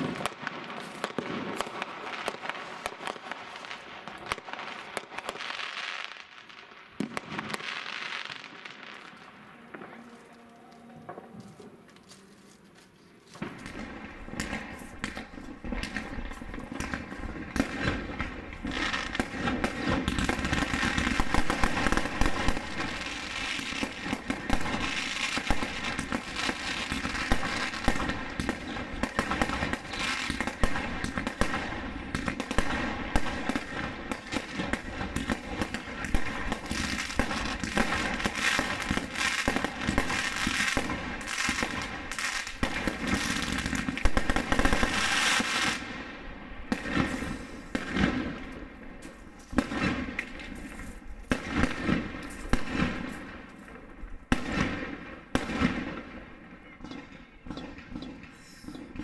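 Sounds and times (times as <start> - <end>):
fireworks bangs and crackles: 0.0 - 10.1, 13.3 - 59.0.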